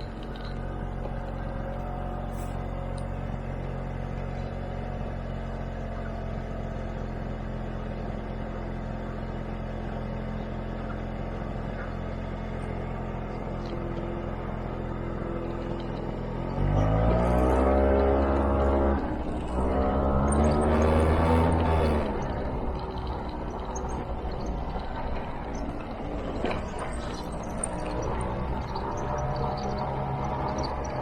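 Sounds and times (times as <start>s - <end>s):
scooter engine running: 0.0s - 31.0s.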